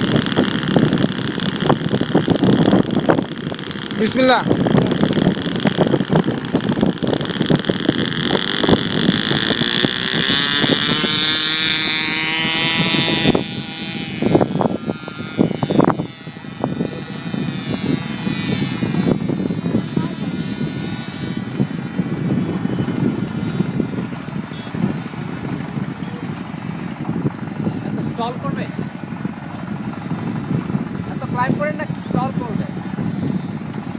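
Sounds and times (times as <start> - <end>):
model plane engine whining: 0.0 - 33.9
wind noise on microphone: 0.0 - 33.9.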